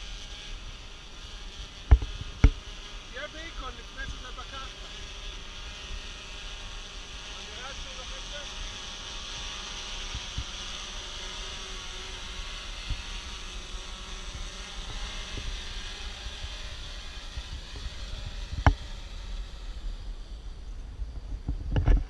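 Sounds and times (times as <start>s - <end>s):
drone propellers humming: 0.0s - 22.0s.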